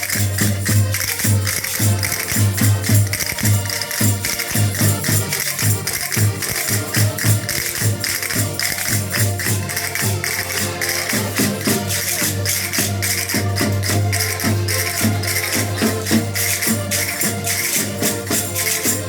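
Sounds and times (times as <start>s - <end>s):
folk band playing: 0.0s - 19.0s
jingling shaken percussion: 0.0s - 19.0s.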